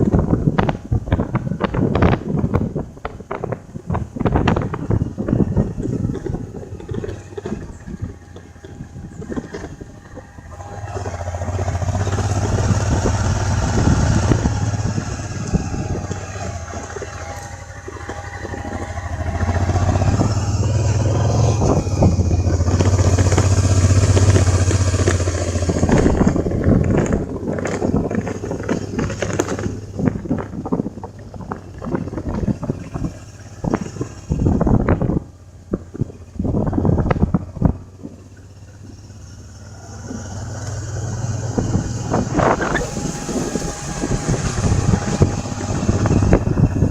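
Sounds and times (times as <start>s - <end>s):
knocks and rattles: 0.0s - 39.0s
vehicle engine running: 0.0s - 46.9s
wind and road noise: 0.0s - 46.9s.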